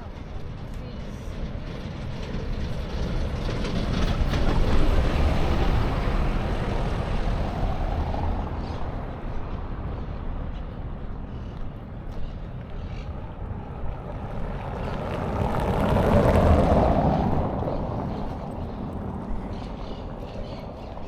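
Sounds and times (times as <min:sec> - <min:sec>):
vehicle passing by: 0:00.9 - 0:11.5, 0:12.6 - 0:21.0.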